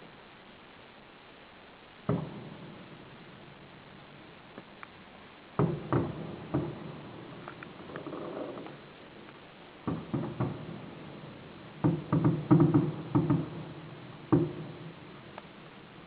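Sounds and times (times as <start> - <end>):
fireworks exploding: 1.9 - 16.0.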